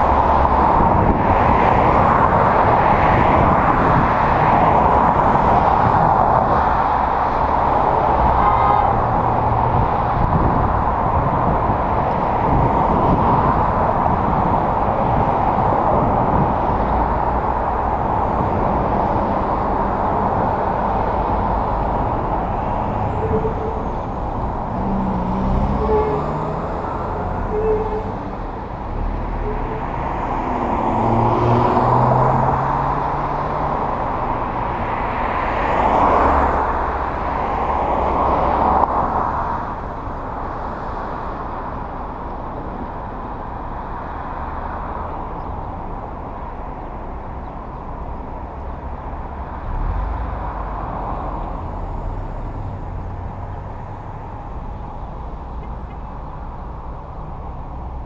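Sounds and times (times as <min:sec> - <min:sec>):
cars driving past: 0:00.0 - 0:58.0
road noise: 0:00.0 - 0:58.0.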